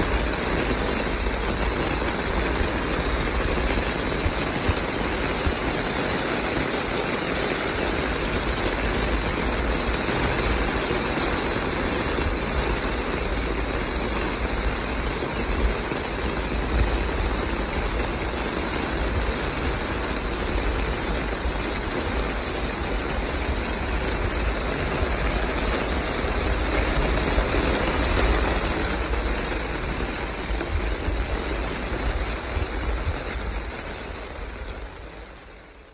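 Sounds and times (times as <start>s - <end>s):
heavy rain on concrete: 0.0s - 35.9s
water rushing and pouring from drain: 0.0s - 35.9s.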